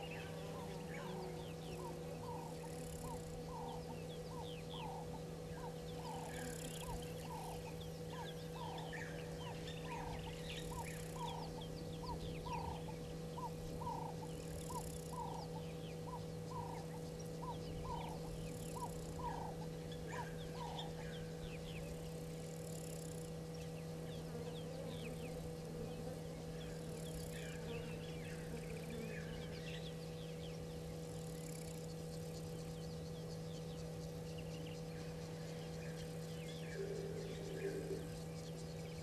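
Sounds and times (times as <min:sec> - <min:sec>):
birds chirping high: 0:00.0 - 0:39.0
low electrical hum: 0:00.0 - 0:39.0.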